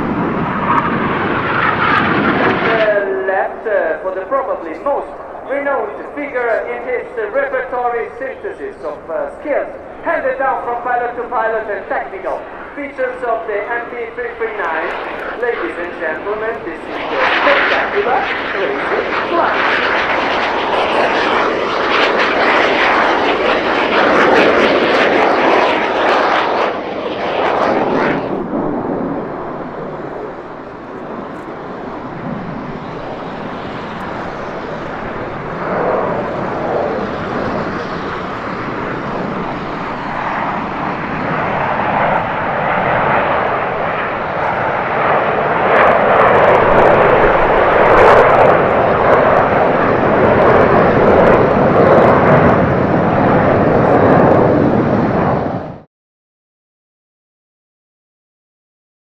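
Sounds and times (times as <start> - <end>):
jet aircraft flying past: 0.0 - 55.9.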